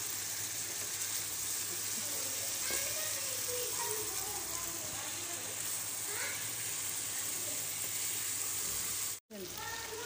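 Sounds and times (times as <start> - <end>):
gravy sizzling in oil: 0.0 - 10.0.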